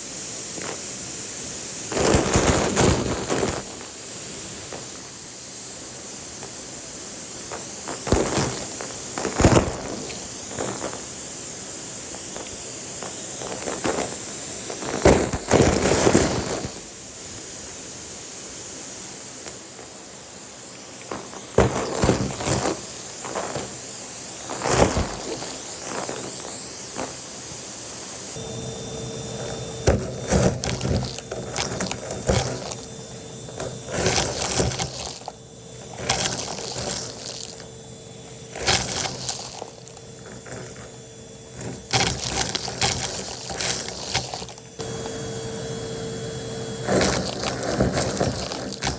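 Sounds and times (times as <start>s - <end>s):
debris crackling in vacuum hose: 0.0s - 45.2s, 46.8s - 48.9s
steady hum: 0.0s - 48.9s
vacuum cleaner running: 0.0s - 48.9s.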